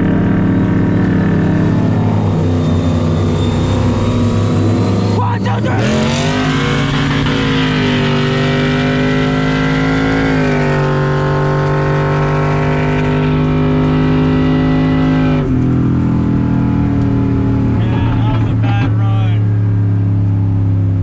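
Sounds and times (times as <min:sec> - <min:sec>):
truck engine revving high: 0:00.0 - 0:21.0.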